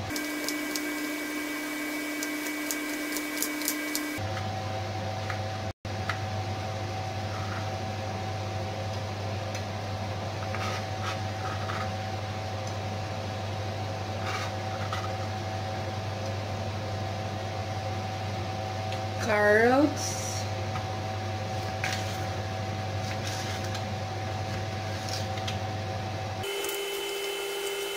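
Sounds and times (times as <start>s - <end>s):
mechanical hum: 0.0s - 27.9s.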